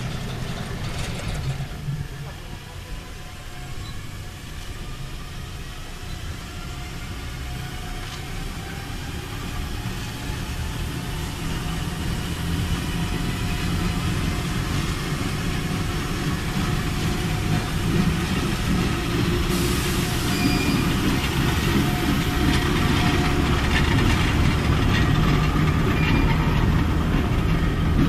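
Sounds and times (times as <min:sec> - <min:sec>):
wheel and rail rumble: 0:00.0 - 0:28.0.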